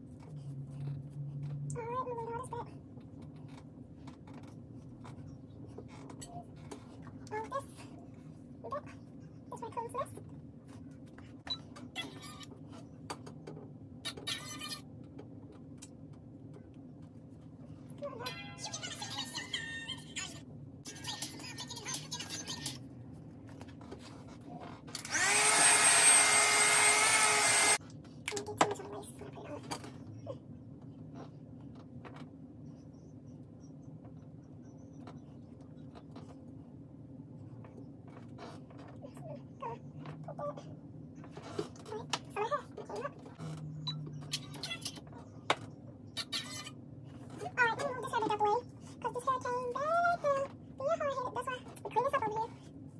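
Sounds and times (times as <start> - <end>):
low room hum: 0.0 - 52.9.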